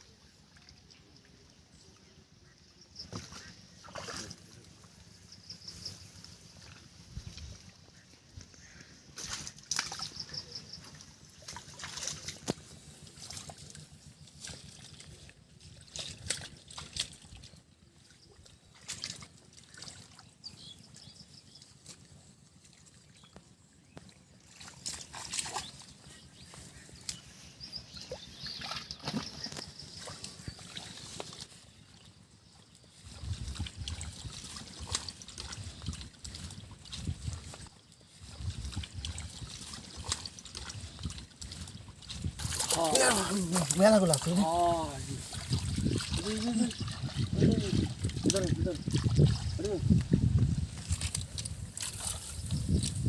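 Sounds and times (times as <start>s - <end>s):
water sloshing and splashing: 0.1s - 53.0s.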